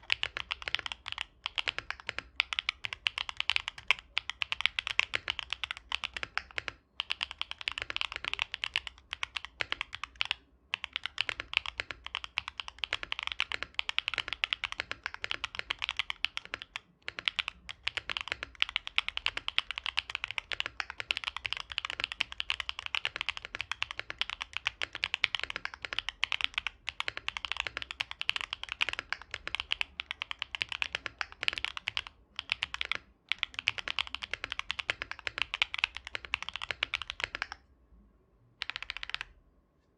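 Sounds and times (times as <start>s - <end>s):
fast mechanical keyboard typing: 0.0s - 37.6s, 38.6s - 39.3s.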